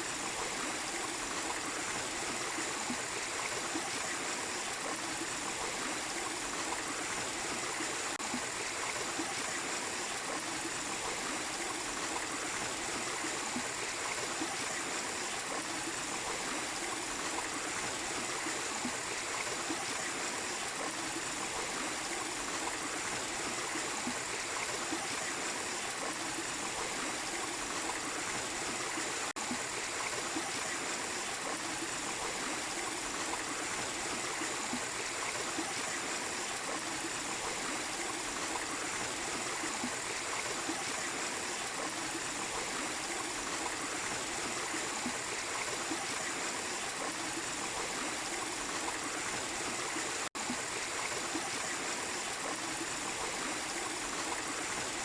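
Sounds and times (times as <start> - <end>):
small waterfall splashing into stream: 0.0 - 55.0.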